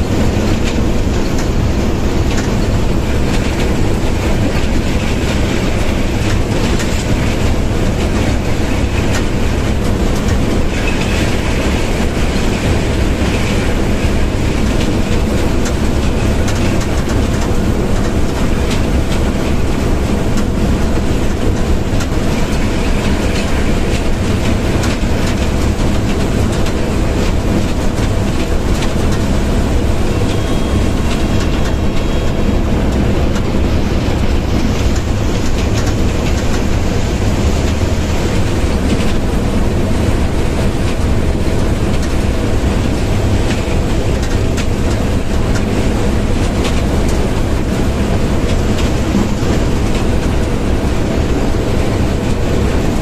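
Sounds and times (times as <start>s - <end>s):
locomotive engine rumble: 0.0s - 53.0s
wheels clattering over rail joints: 0.0s - 53.0s.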